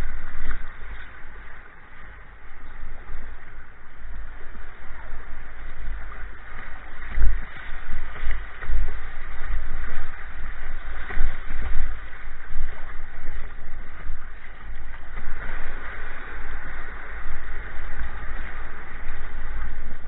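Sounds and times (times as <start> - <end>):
low rumbling on microphone: 0.0 - 20.0
river water rushing and splashing: 0.0 - 20.0.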